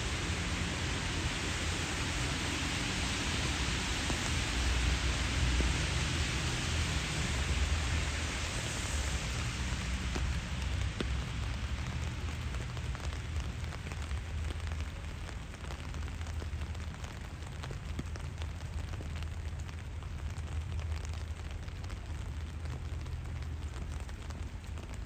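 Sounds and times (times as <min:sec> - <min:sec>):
raindrop ticks: 0:00.0 - 0:25.0
steady rain falling: 0:00.0 - 0:25.0.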